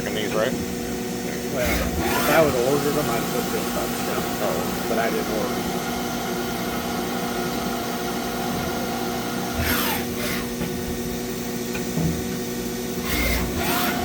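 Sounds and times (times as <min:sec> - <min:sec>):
electric hum of shop machinery: 0:00.0 - 0:14.0.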